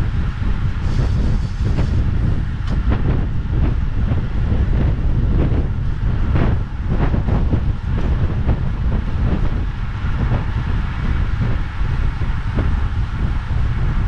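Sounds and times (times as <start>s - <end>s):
road and tyre noise: 0.0s - 14.0s
wind buffeting microphone: 0.0s - 14.0s.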